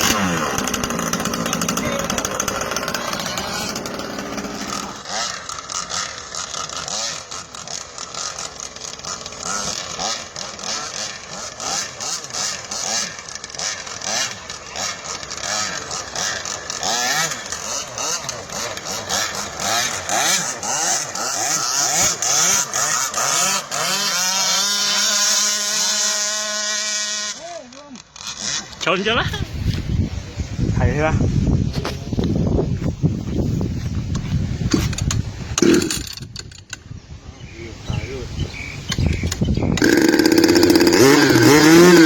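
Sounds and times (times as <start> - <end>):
two-stroke boat engine revving: 0.0 - 29.3, 34.7 - 36.2, 38.6 - 42.0.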